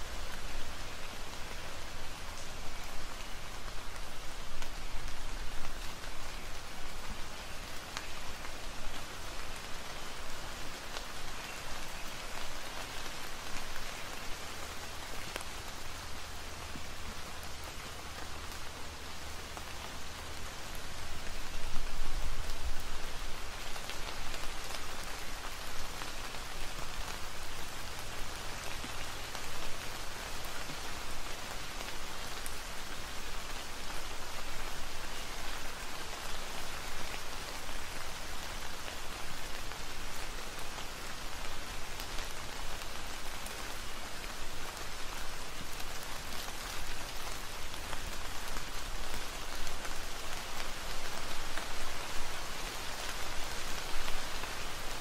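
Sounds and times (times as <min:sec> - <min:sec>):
rain on leaves: 0:00.0 - 0:55.0.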